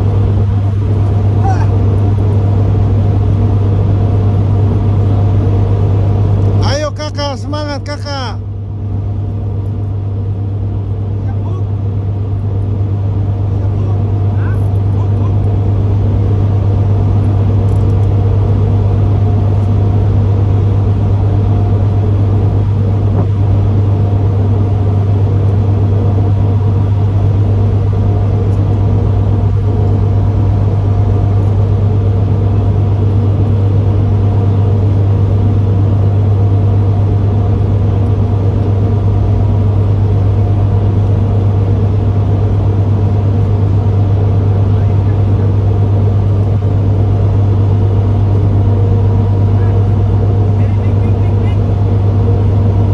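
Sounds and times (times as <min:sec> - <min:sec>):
boat engine droning: 0:00.0 - 0:52.9.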